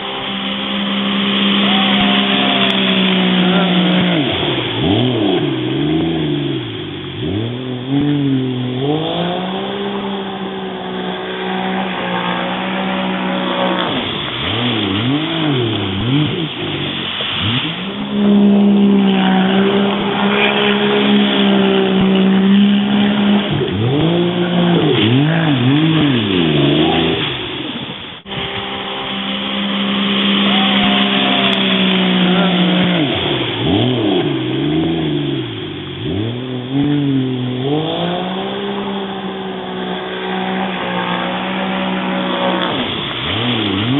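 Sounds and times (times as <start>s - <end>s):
jet ski engine revving: 0.0s - 43.9s.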